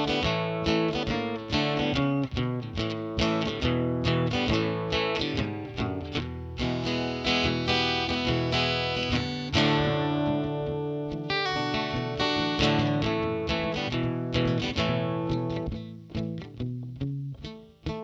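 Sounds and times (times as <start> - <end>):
guitar chords: 0.0 - 18.0
plucked guitar notes: 0.0 - 18.0.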